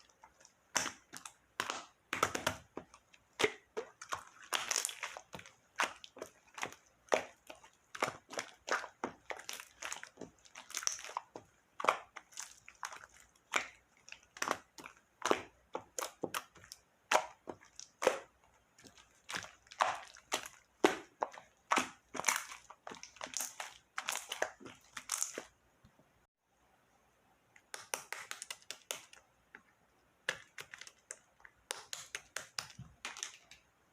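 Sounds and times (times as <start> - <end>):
slime clicking and popping: 0.4 - 25.5, 27.6 - 29.2, 30.2 - 33.6.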